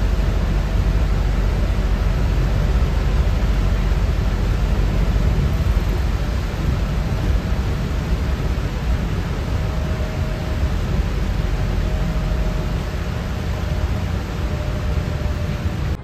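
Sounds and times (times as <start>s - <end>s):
rain: 0.0s - 16.0s
tyres hissing on wet road: 0.0s - 16.0s
vehicle road rumble: 0.0s - 16.0s.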